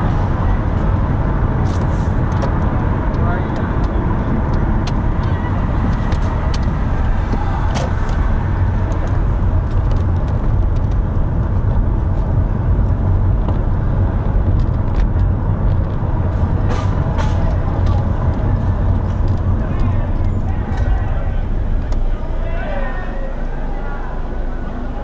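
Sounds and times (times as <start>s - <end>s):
car engine running: 0.0s - 25.0s
road rumble: 0.0s - 25.0s.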